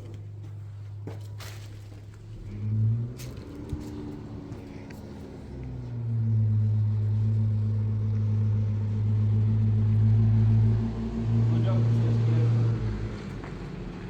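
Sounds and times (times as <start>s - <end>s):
low motor drone: 2.2s - 14.0s.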